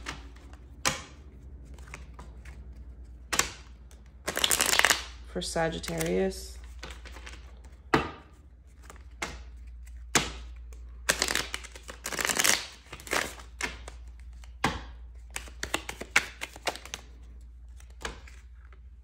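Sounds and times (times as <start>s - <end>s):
cards rustling and clicking: 0.0s - 19.0s.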